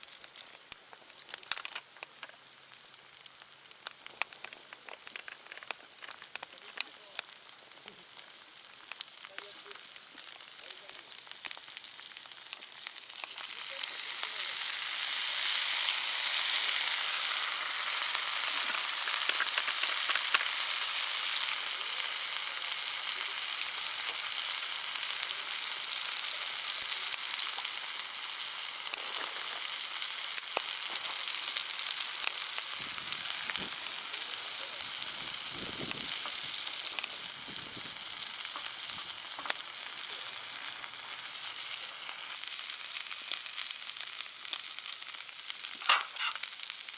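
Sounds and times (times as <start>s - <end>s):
meat sizzling on grill pan: 0.0s - 46.9s.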